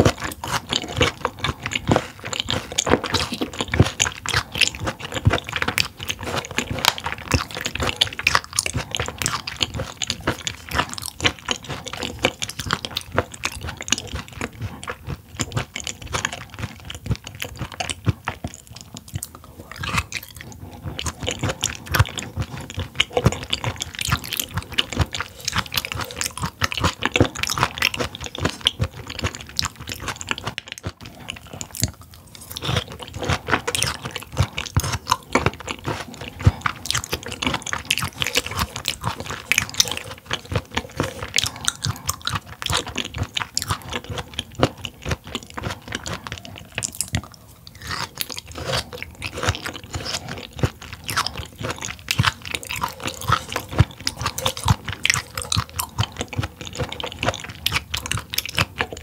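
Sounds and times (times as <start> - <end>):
wet chewing crunches: 0.0 - 59.0.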